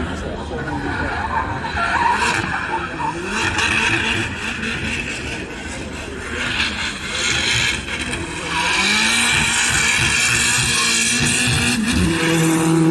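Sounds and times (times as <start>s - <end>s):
car engines revving: 0.0s - 12.9s.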